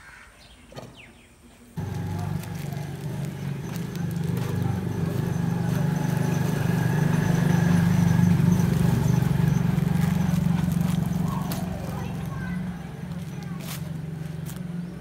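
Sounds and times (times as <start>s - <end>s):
pulsing engine drone: 1.8s - 15.0s.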